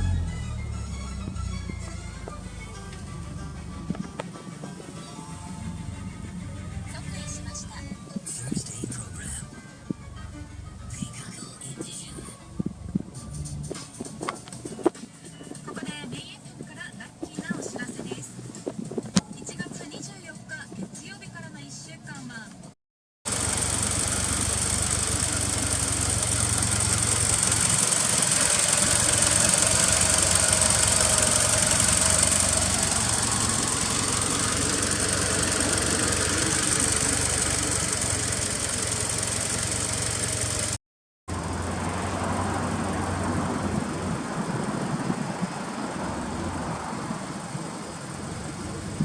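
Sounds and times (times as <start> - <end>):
car engine idling: 0.0 - 21.4, 23.3 - 49.0.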